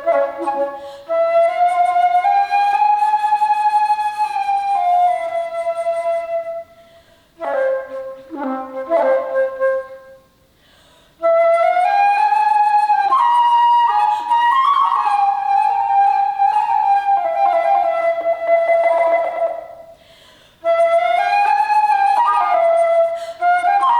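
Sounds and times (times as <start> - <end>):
alto flute playing: 0.0 - 10.4, 11.2 - 20.0, 20.6 - 23.9.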